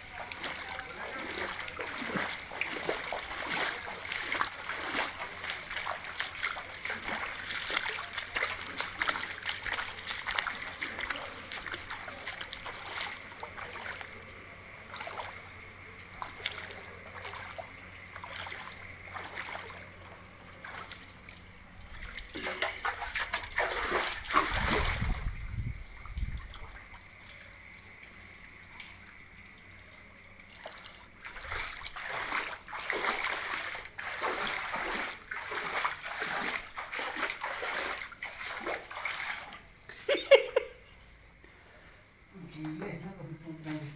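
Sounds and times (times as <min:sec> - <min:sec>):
water splashing and running: 0:00.0 - 0:41.4.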